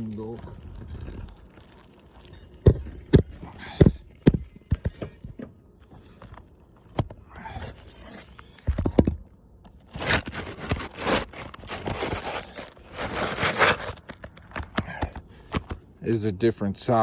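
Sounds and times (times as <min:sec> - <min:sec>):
knocks and scraping on shingle roof: 0:00.0 - 0:15.9.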